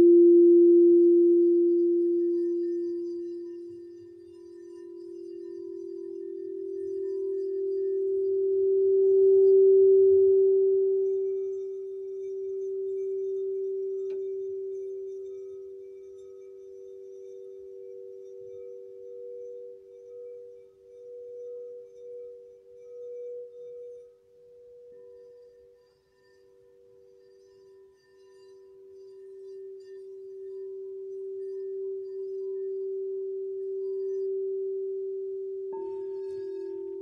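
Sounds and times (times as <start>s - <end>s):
singing bowls ringing: 1.0s - 37.0s.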